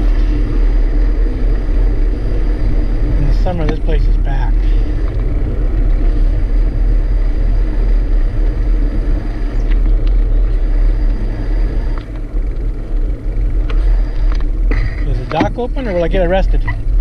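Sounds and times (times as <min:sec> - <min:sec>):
bicycle tyres rolling on asphalt: 0:00.0 - 0:17.0
wind buffeting microphone: 0:00.0 - 0:17.0.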